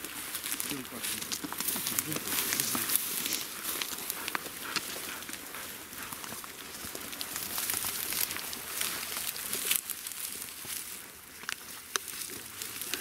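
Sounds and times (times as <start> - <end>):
dry grass rustling and crackling: 0.0 - 13.0
stems snapping: 0.0 - 13.0.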